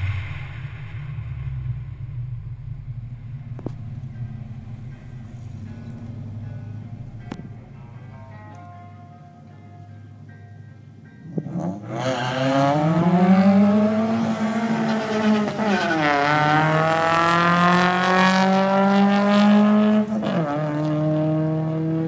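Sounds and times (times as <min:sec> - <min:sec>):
car engine revving at full throttle: 0:00.0 - 0:07.8, 0:11.2 - 0:22.0.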